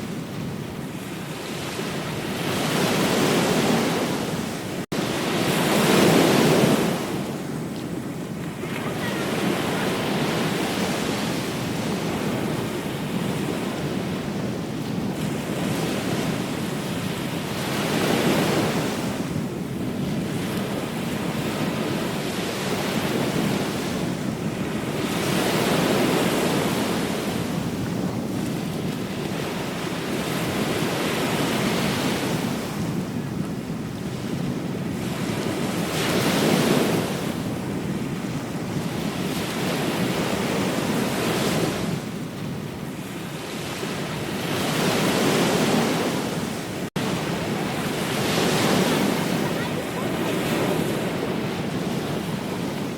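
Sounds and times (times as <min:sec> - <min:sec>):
ocean waves breaking on beach: 0:00.0 - 0:52.9
wind rumbling on microphone: 0:00.0 - 0:52.9.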